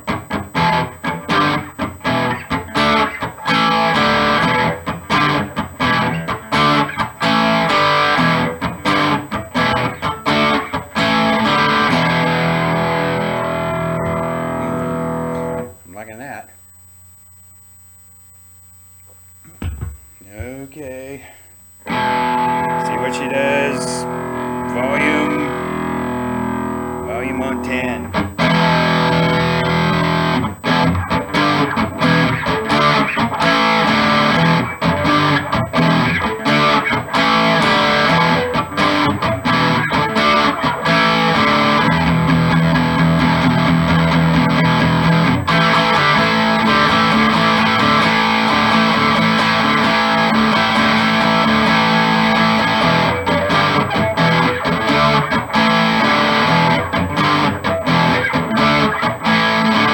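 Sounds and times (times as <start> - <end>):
electric guitar strummed chords: 0.0 - 16.2, 21.8 - 59.9.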